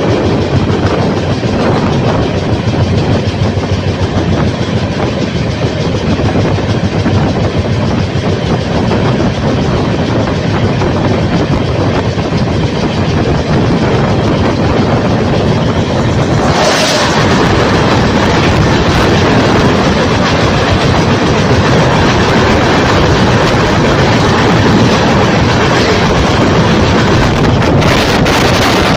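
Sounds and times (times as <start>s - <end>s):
passenger train rushing: 0.0s - 28.9s
wheels clattering over rails: 0.0s - 28.9s.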